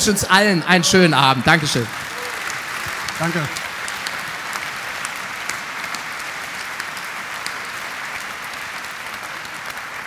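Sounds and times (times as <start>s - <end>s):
audience applauding: 0.6s - 10.0s.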